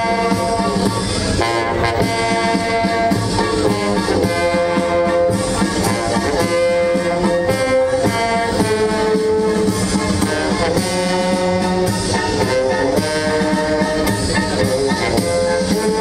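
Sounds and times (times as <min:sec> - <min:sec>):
brass band playing: 0:00.0 - 0:16.0
steady drum beat: 0:00.0 - 0:16.0.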